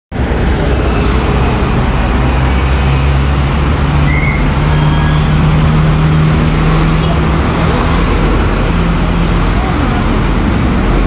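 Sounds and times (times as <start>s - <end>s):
city street traffic: 0.1s - 11.0s
low engine drone: 0.2s - 11.0s.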